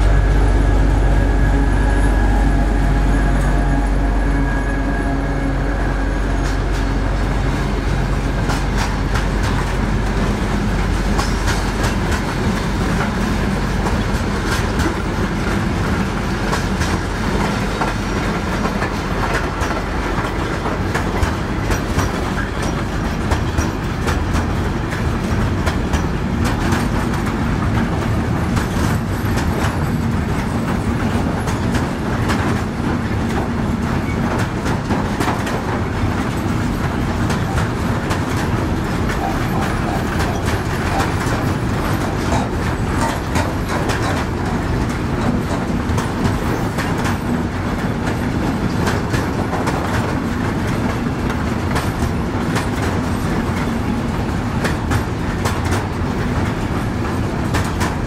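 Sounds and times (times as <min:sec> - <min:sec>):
freight wagons rolling on rails: 0:00.0 - 0:58.0.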